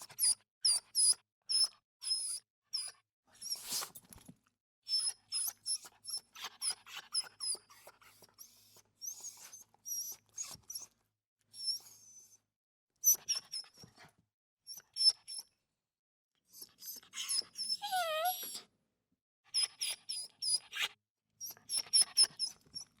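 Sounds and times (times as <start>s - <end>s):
dog whimpering and whining: 0.1s - 3.8s, 4.9s - 12.4s, 13.0s - 14.1s, 14.7s - 15.5s, 16.5s - 18.7s, 19.5s - 23.0s.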